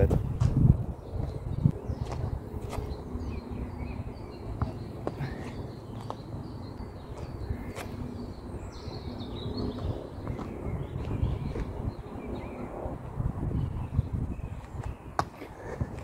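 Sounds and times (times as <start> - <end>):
birds chirping: 0.0 - 16.0
wind buffeting microphone: 0.0 - 16.0.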